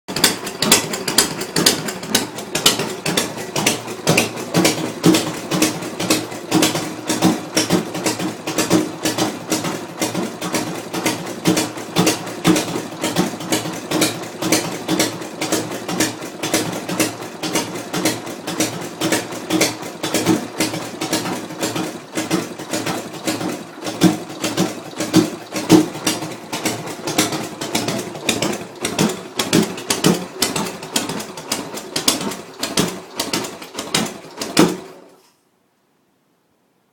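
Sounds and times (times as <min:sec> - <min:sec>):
motorcycle engine lumpy idle: 0:00.1 - 0:35.4.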